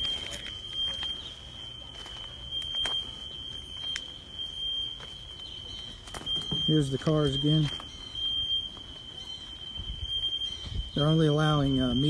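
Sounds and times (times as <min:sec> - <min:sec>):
smoke alarm tone: 0:00.0 - 0:12.0.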